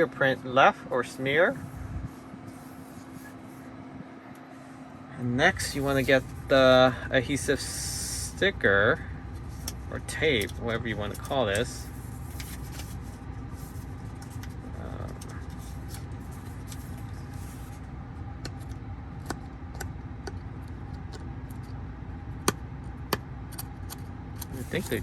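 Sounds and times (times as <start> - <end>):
car ventilation fan hum: 0.0 - 25.0.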